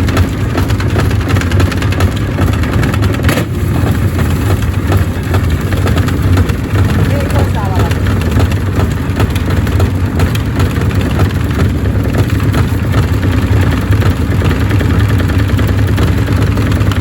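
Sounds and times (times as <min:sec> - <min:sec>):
washing machine motor drone: 0:00.0 - 0:17.0.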